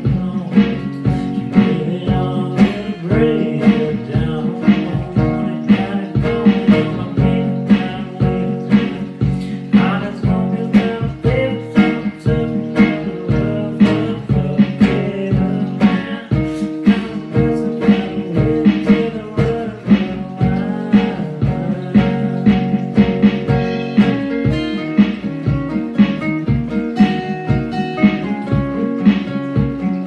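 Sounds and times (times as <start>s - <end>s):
guitar strumming: 0.0s - 30.0s.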